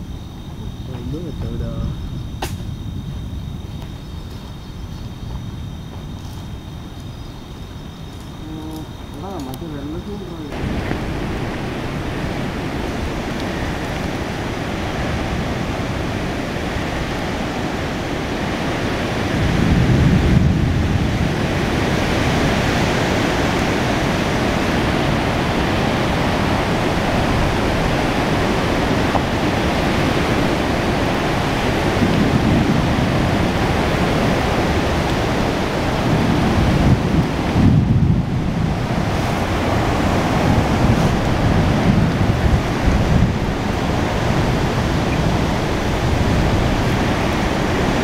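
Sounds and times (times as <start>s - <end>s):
rain and wind rush: 0.0s - 48.0s
thunder rumbling: 0.0s - 48.0s.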